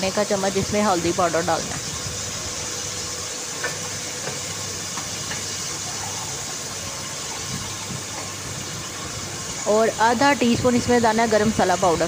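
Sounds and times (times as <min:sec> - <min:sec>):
ghee sizzling in a pot: 0:00.0 - 0:12.0.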